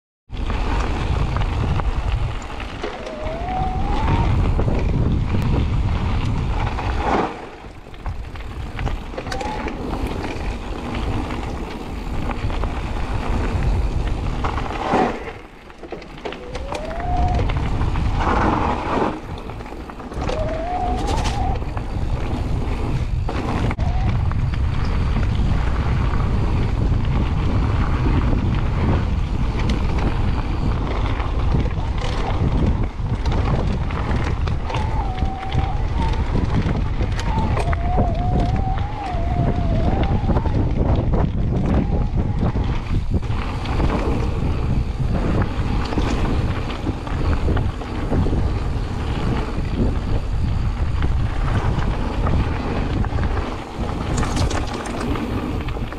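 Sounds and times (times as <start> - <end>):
bike tyres rolling on gravel: 0.3 - 55.9
wind on microphone: 0.3 - 55.9.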